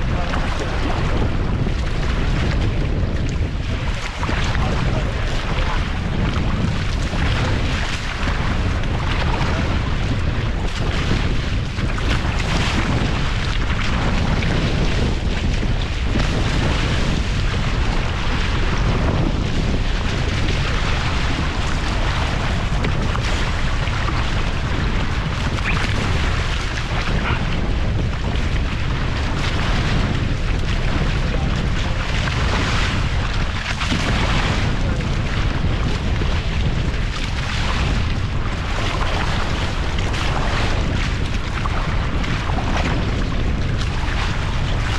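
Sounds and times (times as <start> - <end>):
water rushing past hull: 0.0 - 44.9
wind buffeting microphone: 0.0 - 44.9.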